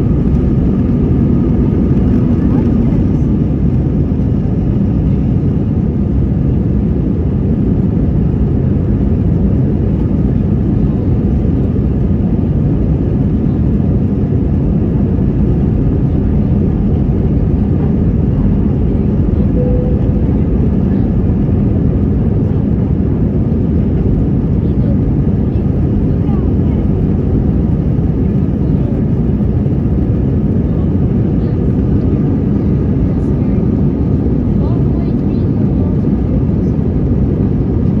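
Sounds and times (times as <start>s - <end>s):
aircraft engines droning: 0.0s - 38.0s.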